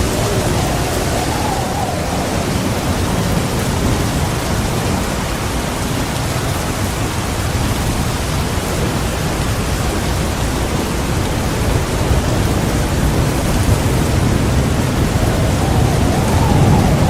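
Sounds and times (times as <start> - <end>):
heavy rain pouring: 0.0 - 17.0
rolling thunder: 0.0 - 17.0.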